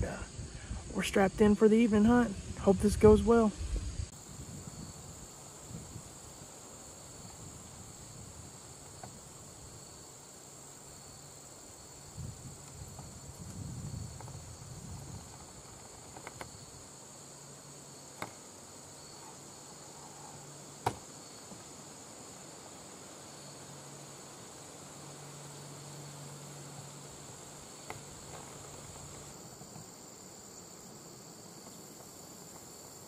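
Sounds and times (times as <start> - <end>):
crickets chirring: 0.0 - 33.0.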